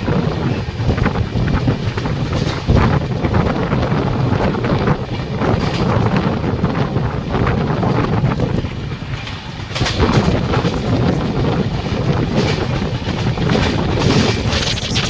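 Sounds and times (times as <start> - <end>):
train wheels clattering on rails: 0.0 - 14.3.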